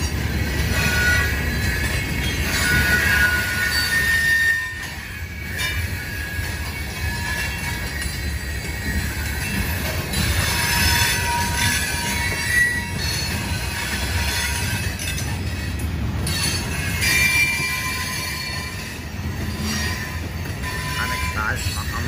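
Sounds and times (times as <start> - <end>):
train wheels rumbling on rail: 0.0 - 22.0
high-pitched wheel squeals: 0.4 - 22.0.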